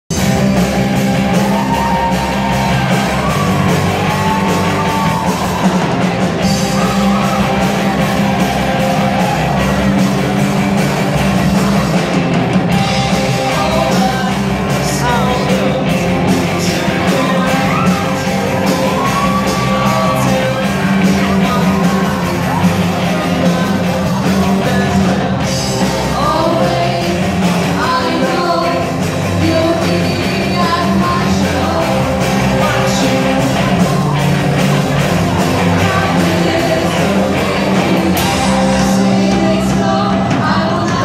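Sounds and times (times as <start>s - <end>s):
bass guitar: 0.0s - 41.0s
drum kit: 0.0s - 41.0s
electric guitars: 0.1s - 41.0s.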